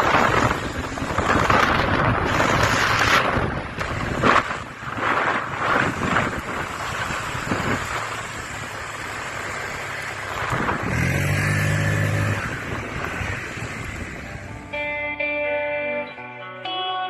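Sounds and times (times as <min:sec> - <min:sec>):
wind buffeting microphone: 0:00.0 - 0:14.9
motorcycle engine and road noise: 0:00.0 - 0:17.0.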